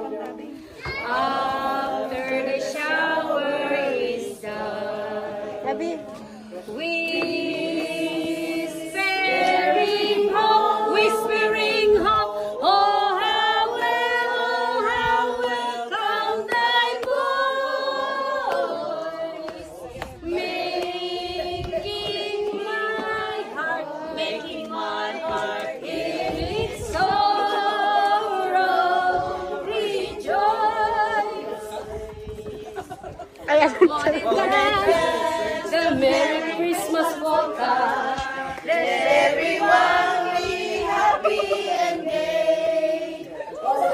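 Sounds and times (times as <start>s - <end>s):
group singing unaccompanied: 0.0s - 43.9s.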